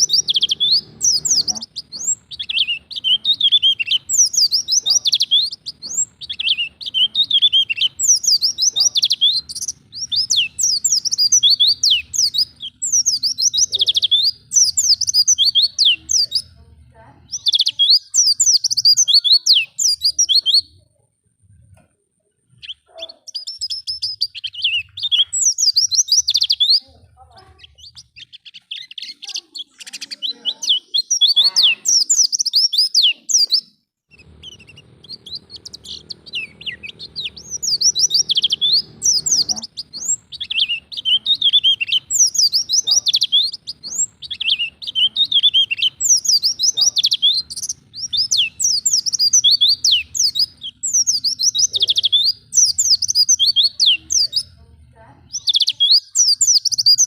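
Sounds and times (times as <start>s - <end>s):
white-eye bird twittering: 0.0s - 16.6s, 17.3s - 20.7s, 22.5s - 26.9s, 27.6s - 54.6s, 55.3s - 57.0s.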